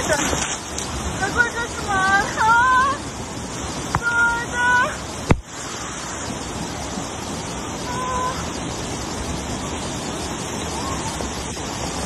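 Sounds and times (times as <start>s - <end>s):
mudflow torrent rushing: 0.0s - 12.0s.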